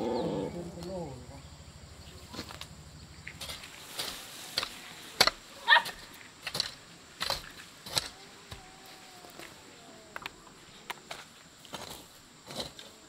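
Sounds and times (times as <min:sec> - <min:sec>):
plants rustling: 0:00.6 - 0:13.0.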